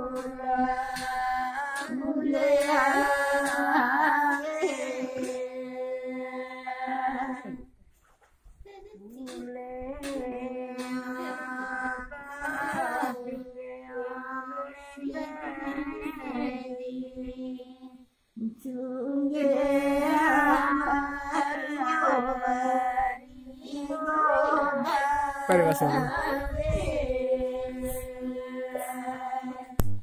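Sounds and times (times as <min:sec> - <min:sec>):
women singing folk song: 0:00.0 - 0:07.7, 0:08.7 - 0:29.8.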